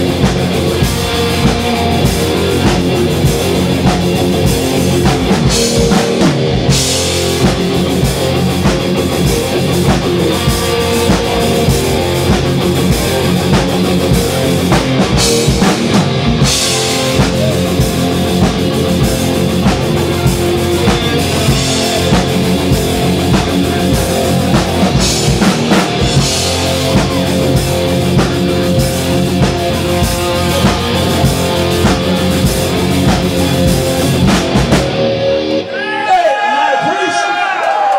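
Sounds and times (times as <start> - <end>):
bass guitar: 0.0 - 36.1
drum kit: 0.0 - 36.1
distorted electric guitar: 0.0 - 36.3.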